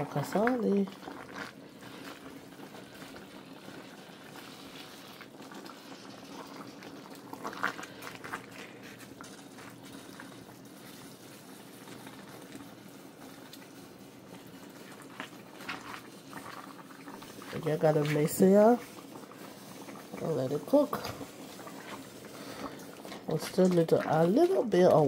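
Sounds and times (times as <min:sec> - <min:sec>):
broth boiling in a pot: 0:00.0 - 0:25.0.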